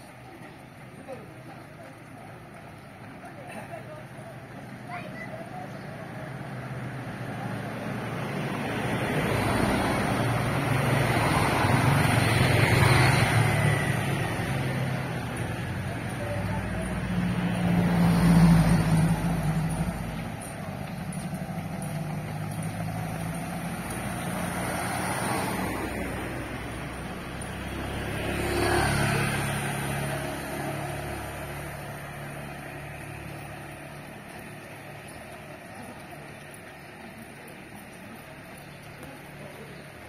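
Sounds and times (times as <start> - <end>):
cars and motorcycles passing: 0.0 - 40.0.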